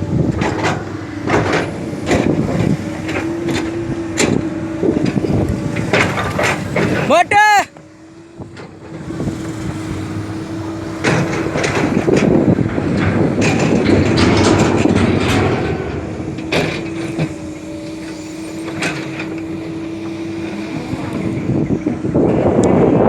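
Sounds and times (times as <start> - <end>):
hydraulic excavator whine: 0.0 - 23.0.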